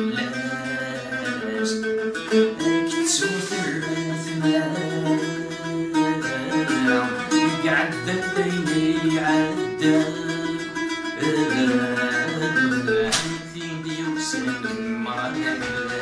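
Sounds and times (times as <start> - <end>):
man singing: 0.0 - 16.0
plucked lute melody: 0.0 - 16.0.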